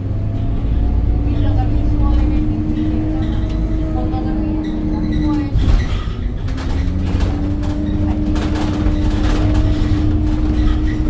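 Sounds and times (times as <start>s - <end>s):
bus diesel engine rumble and whine: 0.0s - 11.0s
rattling inside bus: 0.0s - 11.0s.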